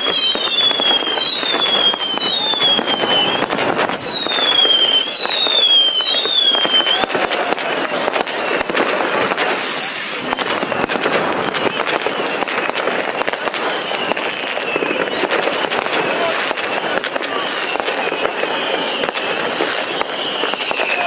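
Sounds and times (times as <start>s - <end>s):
fireworks bangs and crackling: 0.0s - 21.0s
whistling fireworks: 0.0s - 21.0s.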